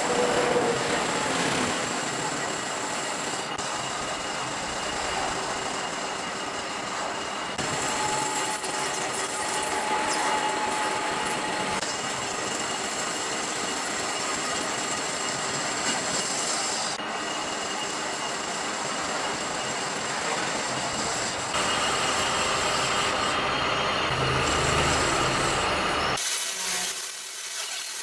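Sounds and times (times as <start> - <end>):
high-pitched metallic squeal: 0.0 - 28.0
machining steel: 0.0 - 28.0.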